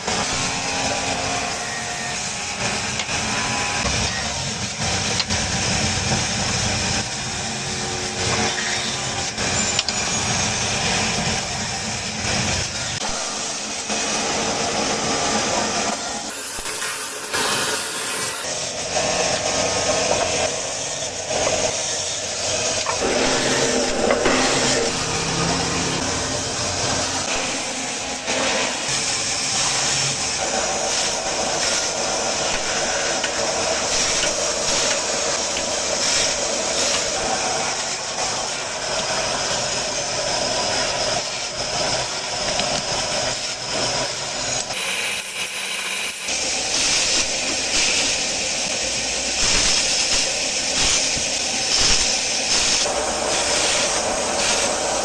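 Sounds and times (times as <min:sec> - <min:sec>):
machinery running with hiss: 0:00.0 - 0:55.0.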